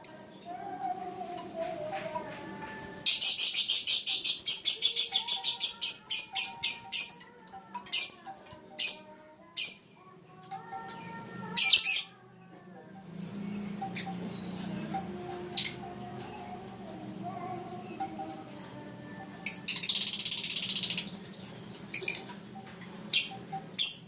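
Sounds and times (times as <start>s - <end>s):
lovebird chirping: 3.0s - 16.7s, 17.3s - 24.0s.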